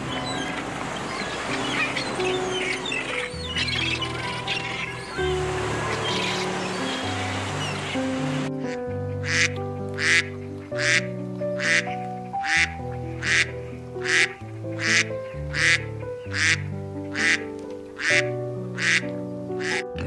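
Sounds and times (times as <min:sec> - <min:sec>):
background music: 0:00.0 - 0:20.0
duck quacking: 0:00.0 - 0:20.0.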